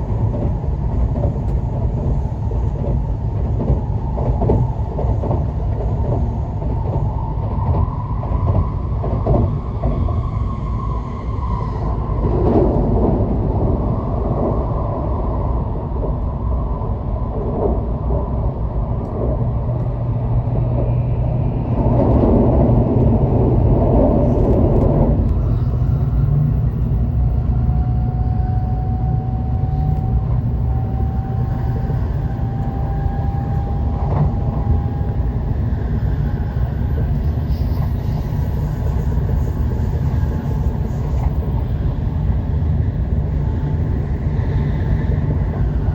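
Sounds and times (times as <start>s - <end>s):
train rumbling on track: 0.0s - 45.9s.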